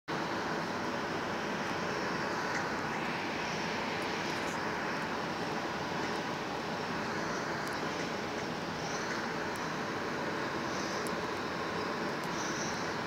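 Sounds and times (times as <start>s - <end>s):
jet engines rushing hiss: 0.1s - 13.0s.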